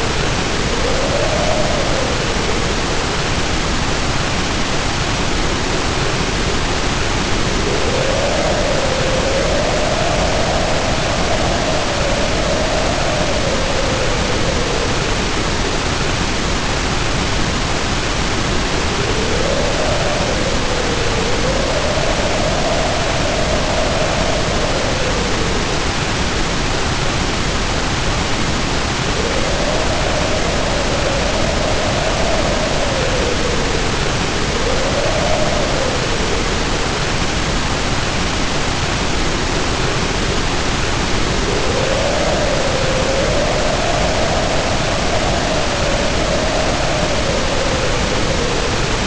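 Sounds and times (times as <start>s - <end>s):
heavy rain hissing: 0.0s - 49.0s
wind howling in gusts: 0.0s - 49.0s.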